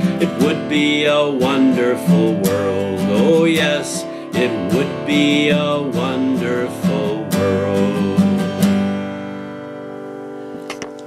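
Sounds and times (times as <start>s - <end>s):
man singing: 0.0s - 8.9s
acoustic guitar strumming: 0.0s - 11.0s.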